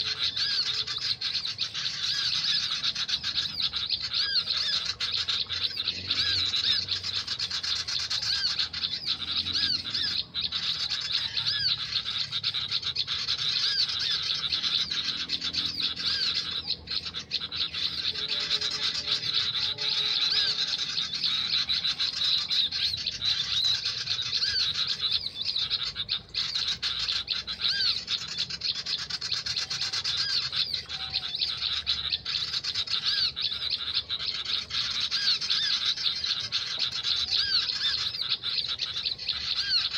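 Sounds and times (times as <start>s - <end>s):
high repeated bird chirps: 0.0s - 39.9s.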